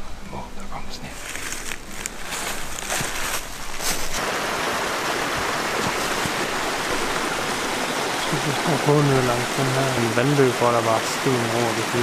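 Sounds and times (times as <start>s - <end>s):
mountain stream rushing: 1.2s - 12.0s.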